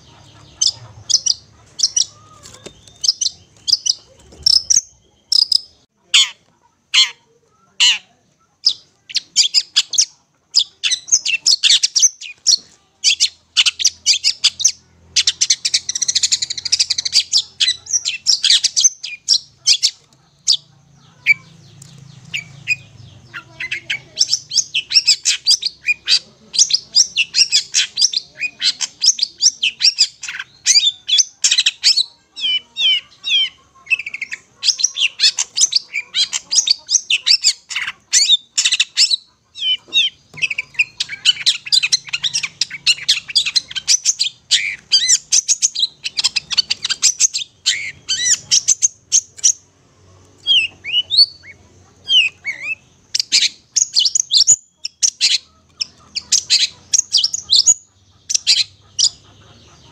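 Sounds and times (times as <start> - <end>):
bird singing high chirps: 0.0 - 6.4, 7.0 - 49.7, 50.4 - 59.9.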